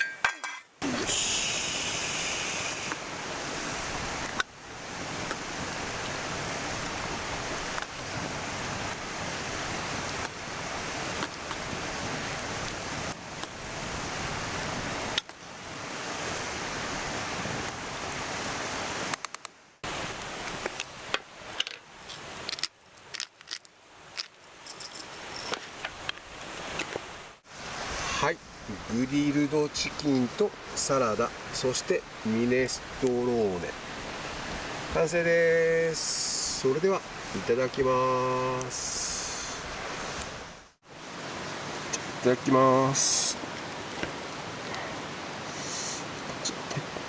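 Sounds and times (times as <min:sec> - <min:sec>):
stream rushing: 0:00.0 - 0:47.0.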